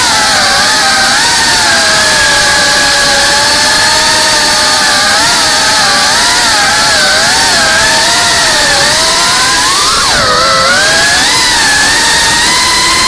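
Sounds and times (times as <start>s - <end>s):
drone motors and propellers whining: 0.0s - 13.0s.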